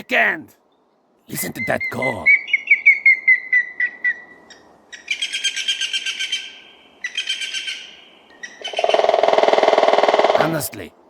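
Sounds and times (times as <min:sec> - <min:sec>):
bird trilling: 0:01.6 - 0:10.7.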